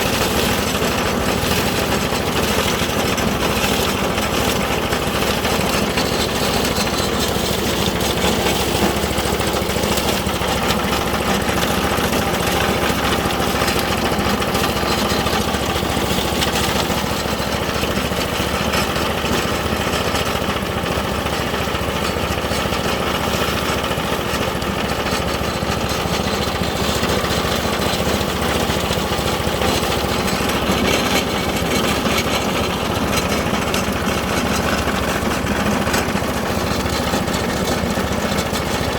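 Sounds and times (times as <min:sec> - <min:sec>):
leaf shredder running: 0:00.0 - 0:38.9.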